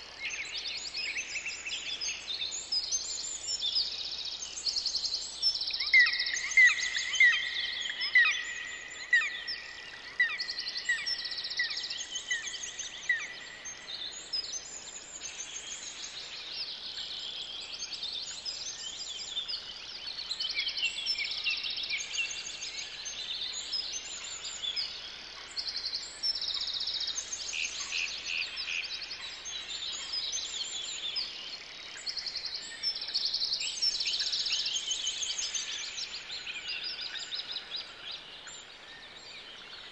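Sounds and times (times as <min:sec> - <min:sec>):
birds singing trills: 0:00.0 - 0:39.9.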